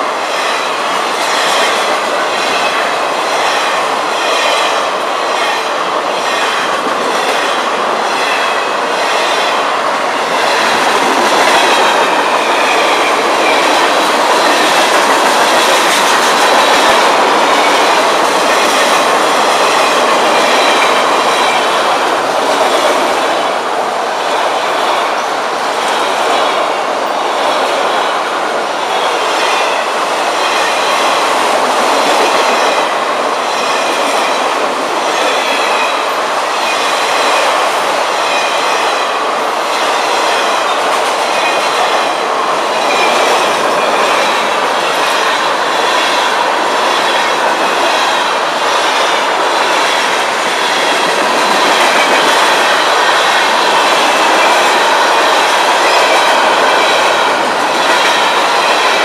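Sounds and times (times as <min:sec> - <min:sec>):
rhythmic clicks of rail joints: 0:00.0 - 0:59.0
train wheels rumbling on rail: 0:00.0 - 0:59.0.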